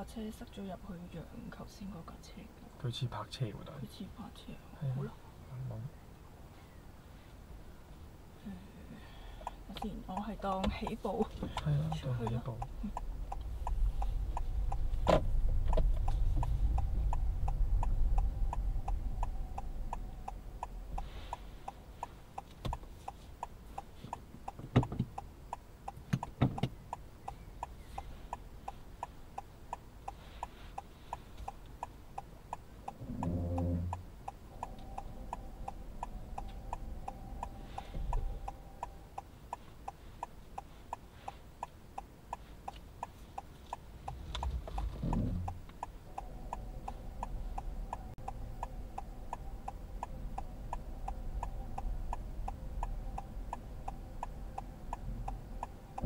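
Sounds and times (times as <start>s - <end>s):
turn signal ticking: 0.0s - 6.0s, 8.4s - 56.0s
car engine and road noise: 0.0s - 56.0s.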